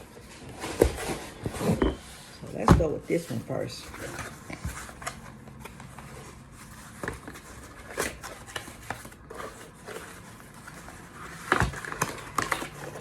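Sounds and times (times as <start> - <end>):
packaging scrapes and rustles: 0.0 - 13.0.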